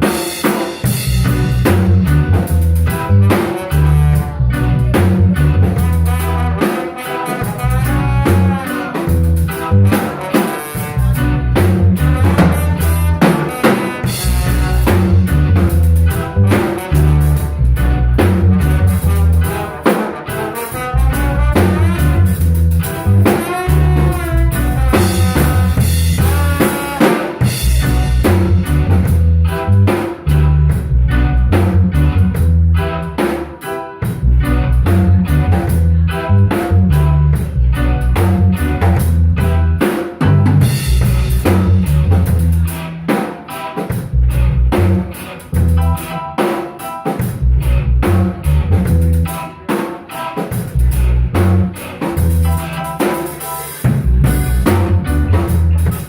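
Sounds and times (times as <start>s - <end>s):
drum kit: 0.0s - 56.0s
electric guitar line: 0.0s - 56.0s.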